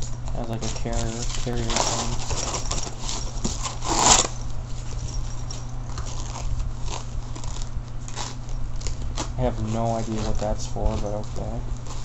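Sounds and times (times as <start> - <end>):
steady low hum: 0.0 - 12.0
bag rustling and clicks: 0.6 - 12.0.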